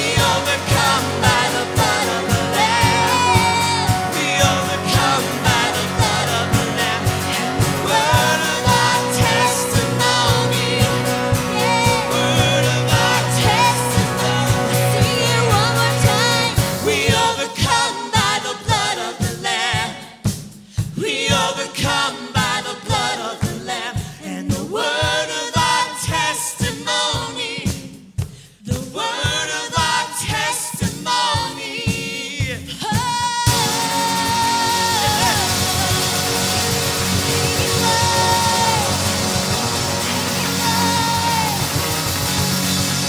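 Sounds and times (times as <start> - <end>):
singers with a band: 0.0 - 43.0.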